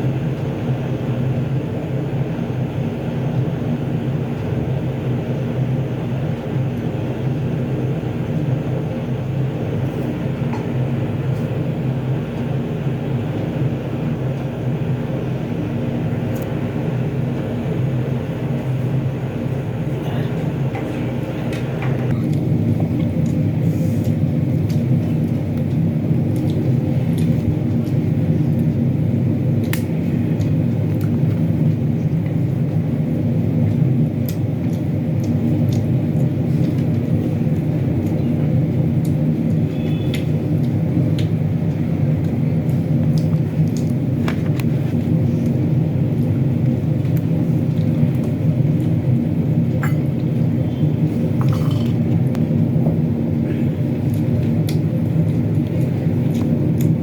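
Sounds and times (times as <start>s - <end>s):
low rumbling hum: 0.0s - 57.0s.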